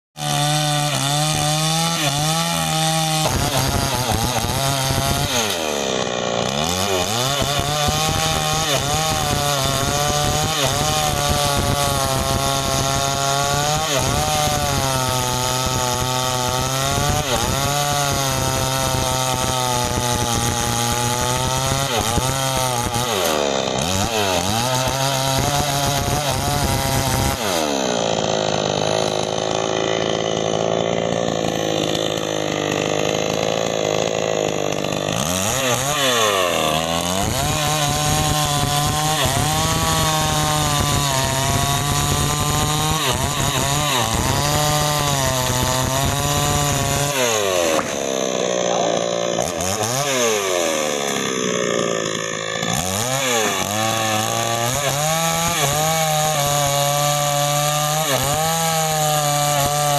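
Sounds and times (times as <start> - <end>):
chainsaw cutting wood: 0.2 - 59.9.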